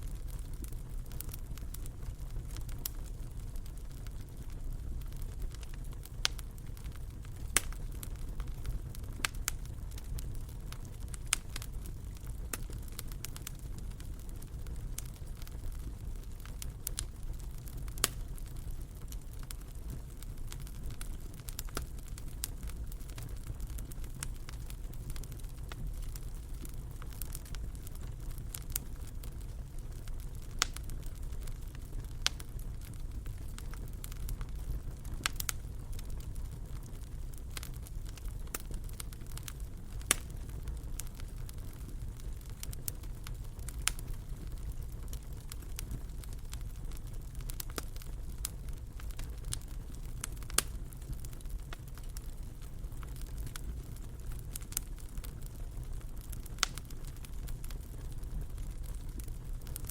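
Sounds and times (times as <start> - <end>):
fire crackling and popping: 0.0 - 59.9
low rumble of fire: 0.0 - 59.9.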